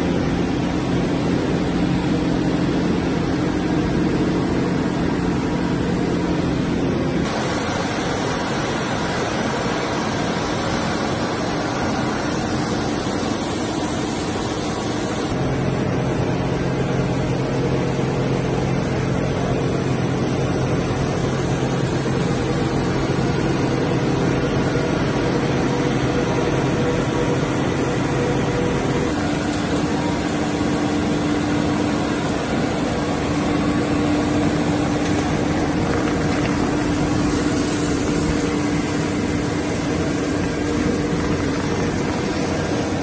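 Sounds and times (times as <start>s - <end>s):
blower blowing plastic flakes: 0.0s - 43.0s
steady hum: 0.0s - 43.0s.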